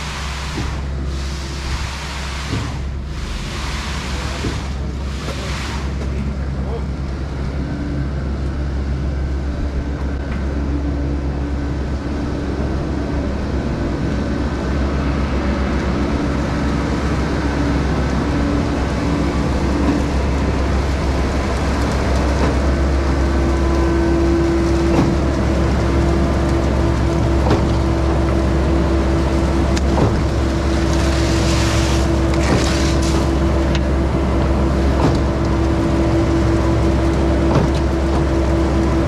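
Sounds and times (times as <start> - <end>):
concrete pump engine hum: 0.0 - 39.0
pump whine: 0.0 - 39.0.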